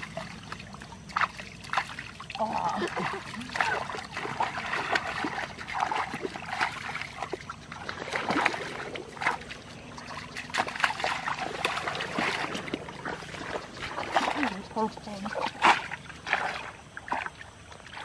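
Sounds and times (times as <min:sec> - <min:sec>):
wading through muddy water: 0:00.0 - 0:18.0.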